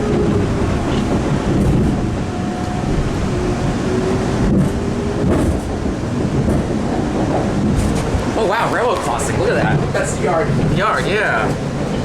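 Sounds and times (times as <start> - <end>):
subway car wheels rumbling on rail: 0.0 - 12.0.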